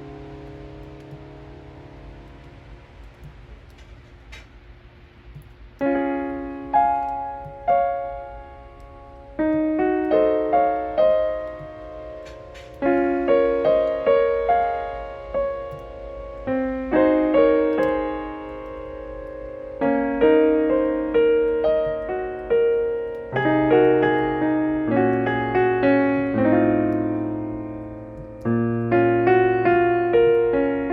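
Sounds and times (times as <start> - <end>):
gentle piano chords and notes: 0.0 - 30.9.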